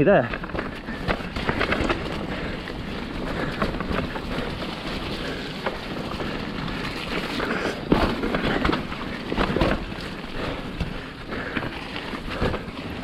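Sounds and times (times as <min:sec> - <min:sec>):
bike rattles and clicks: 0:00.0 - 0:13.0
bike tyre noise on dirt: 0:00.0 - 0:13.0.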